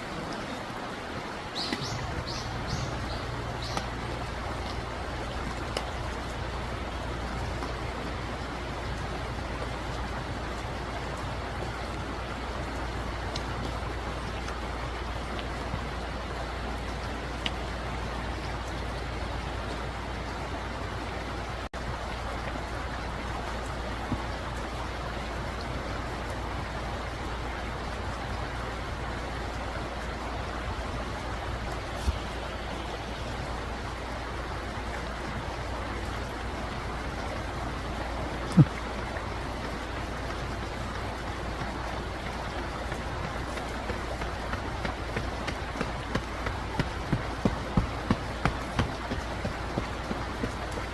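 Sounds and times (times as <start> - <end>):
mountain stream flowing: 0.0 - 50.9
river water rushing: 0.0 - 50.9.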